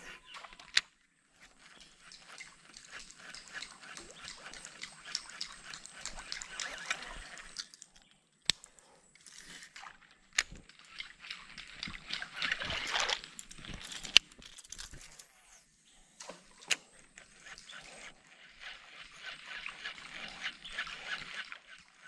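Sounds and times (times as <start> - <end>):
water sloshing around boat: 0.0 - 8.0, 8.9 - 15.1, 16.0 - 22.0.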